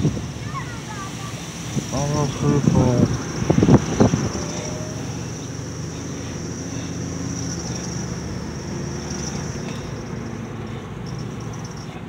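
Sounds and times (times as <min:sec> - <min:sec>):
car engine and road rumble: 0:00.0 - 0:12.0
high-pitched hiss: 0:00.0 - 0:12.0.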